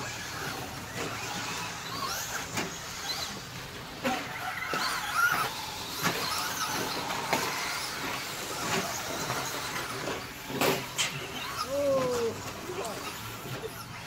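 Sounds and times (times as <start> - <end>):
rc truck electric motor whine: 0.0 - 14.0.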